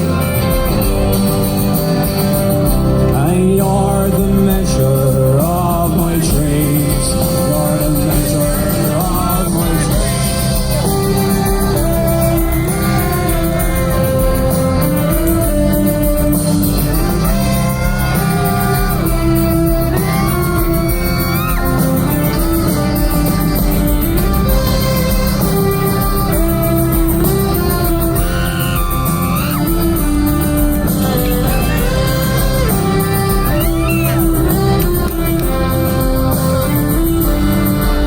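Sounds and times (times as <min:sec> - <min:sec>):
live band playing slow ballad: 0:00.0 - 0:38.0.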